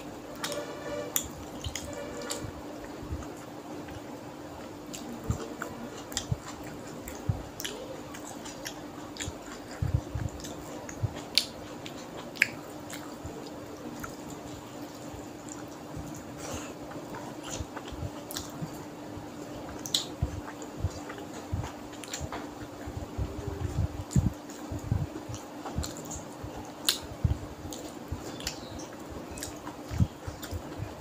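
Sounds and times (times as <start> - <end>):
faint steady hum: 0.0 - 31.0
wet chewing and lip smacks: 1.2 - 2.5, 4.8 - 18.8, 19.7 - 22.9, 24.0 - 31.0.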